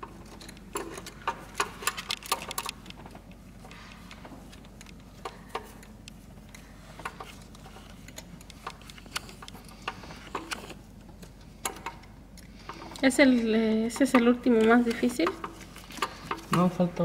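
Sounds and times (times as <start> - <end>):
hand tools clicking and tapping: 0.0 - 17.0
low steady hum: 0.0 - 17.0.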